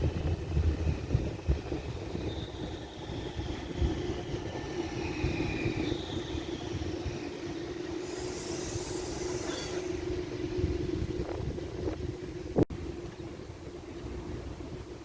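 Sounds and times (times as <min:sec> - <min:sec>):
tram running on track: 0:00.0 - 0:15.0
faint high whining tones: 0:00.2 - 0:14.9.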